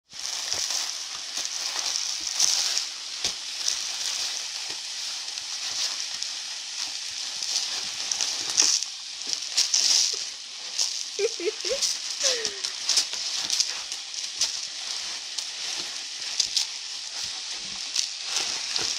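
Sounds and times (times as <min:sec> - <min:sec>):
cat litter pouring into plastic box: 0:00.0 - 0:18.9.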